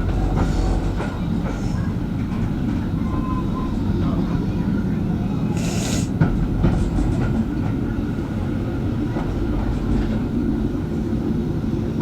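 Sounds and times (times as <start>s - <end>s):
railway carriage rumble: 0.0s - 12.0s.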